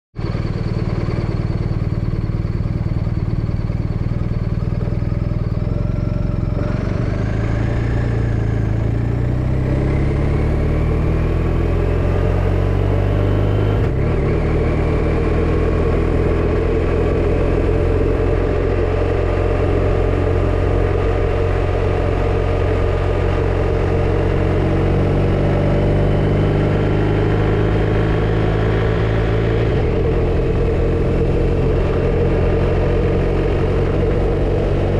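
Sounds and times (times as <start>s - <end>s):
motorcycle engine accelerating: 0.2s - 34.9s.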